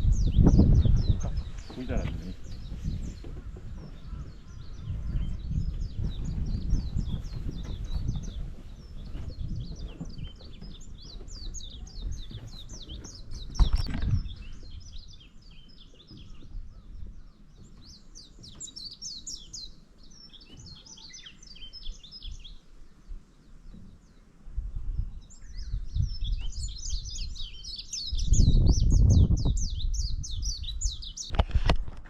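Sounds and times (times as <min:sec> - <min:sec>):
small birds chirping: 0:00.0 - 0:31.6.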